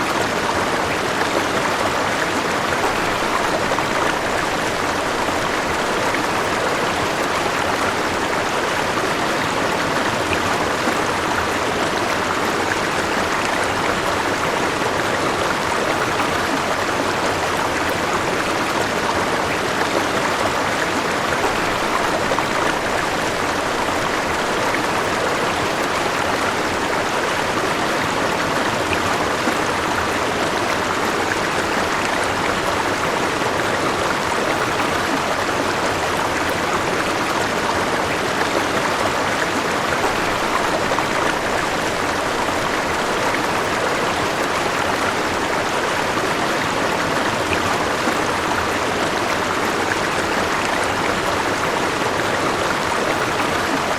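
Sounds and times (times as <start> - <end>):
river water babbling over stones: 0.0 - 53.9.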